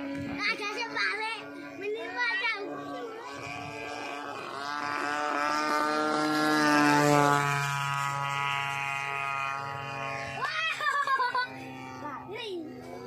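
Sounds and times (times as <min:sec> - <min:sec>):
model airplane engine buzzing overhead: 0:00.0 - 0:13.0.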